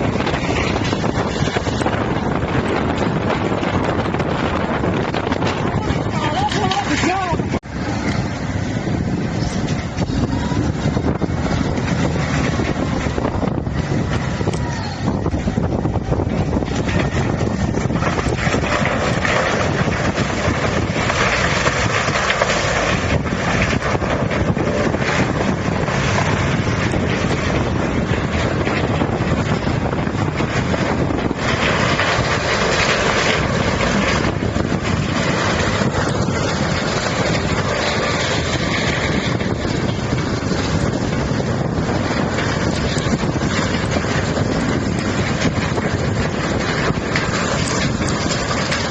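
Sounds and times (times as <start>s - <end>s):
tub grinder grinding stumps: 0.0s - 48.9s.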